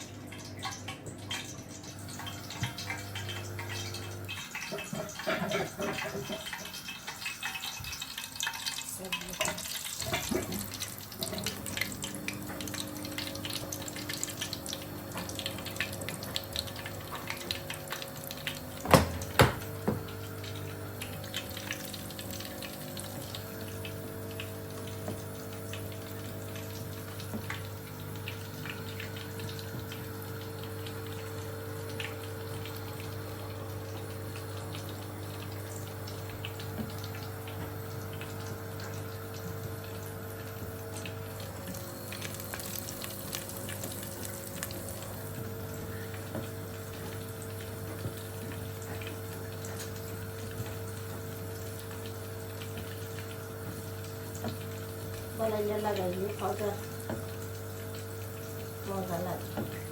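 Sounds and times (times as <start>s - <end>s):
oil sizzling in a pan: 1.8s - 59.9s.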